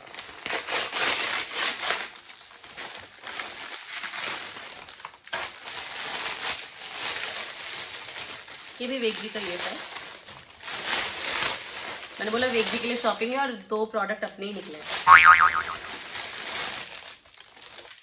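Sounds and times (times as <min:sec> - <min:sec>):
package crinkling and rustling: 0:00.0 - 0:13.7, 0:15.7 - 0:18.0.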